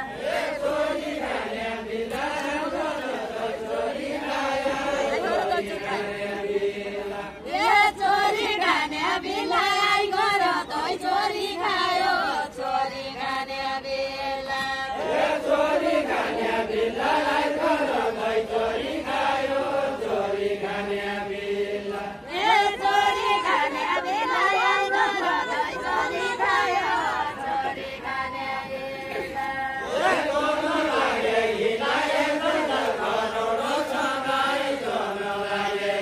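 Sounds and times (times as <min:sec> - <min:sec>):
voices chanting a folk song: 0:00.0 - 0:36.0.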